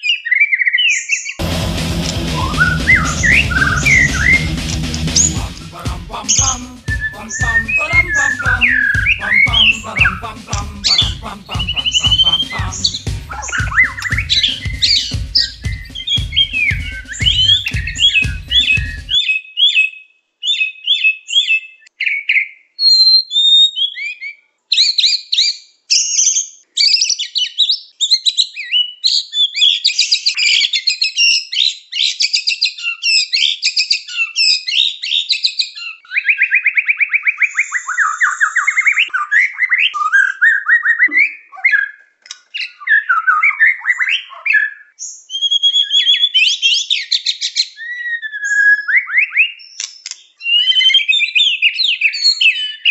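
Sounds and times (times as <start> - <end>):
bird singing whistles and trills: 0.0 - 1.4, 6.3 - 10.2, 12.9 - 42.0, 42.6 - 52.9.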